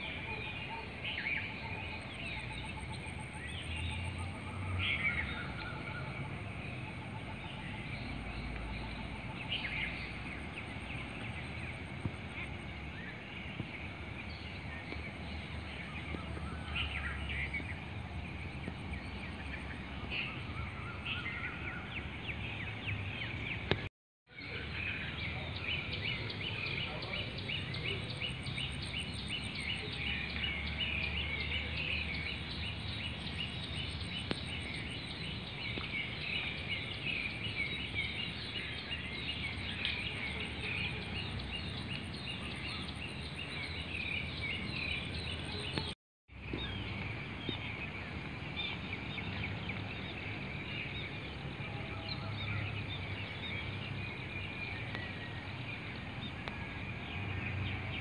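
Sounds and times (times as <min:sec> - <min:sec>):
birds chirping in chorus: 0:00.0 - 0:58.0.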